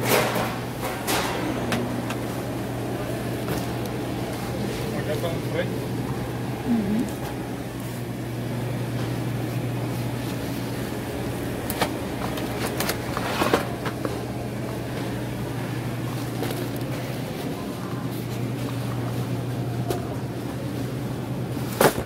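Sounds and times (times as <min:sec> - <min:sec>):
low hum of air handling: 0:00.0 - 0:22.0.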